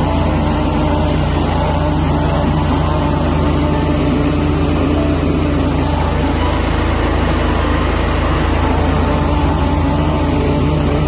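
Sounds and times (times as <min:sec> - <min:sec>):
truck engines droning: 0:00.0 - 0:11.0
water jet hissing: 0:00.0 - 0:11.0.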